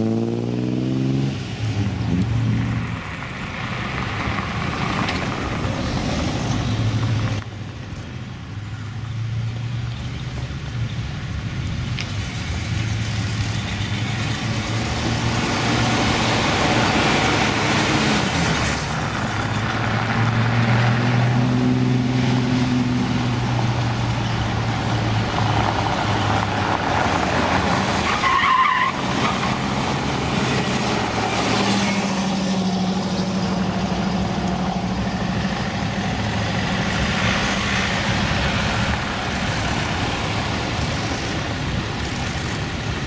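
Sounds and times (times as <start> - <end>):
cars driving by: 0.0 - 43.0.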